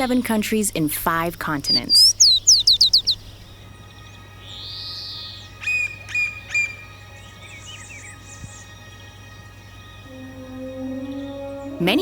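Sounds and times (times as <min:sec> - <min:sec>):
birds chirping: 0:01.2 - 0:12.0.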